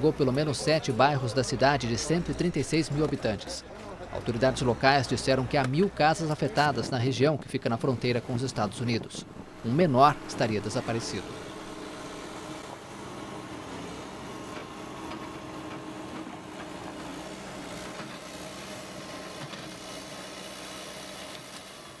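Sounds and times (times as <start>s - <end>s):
heavy machinery engine humming: 0.0s - 22.0s.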